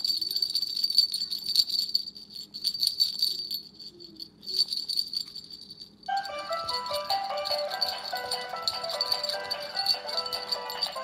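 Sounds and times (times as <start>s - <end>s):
small jingle bells jingling: 0.0s - 11.0s.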